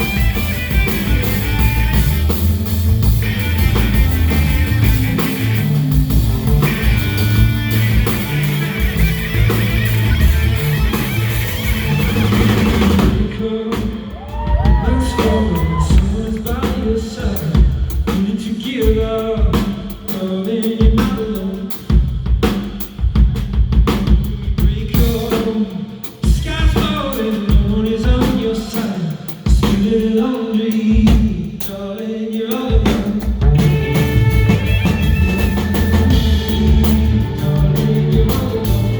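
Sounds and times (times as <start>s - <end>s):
live band playing: 0.0s - 30.1s, 32.8s - 38.9s
drums: 0.0s - 38.9s.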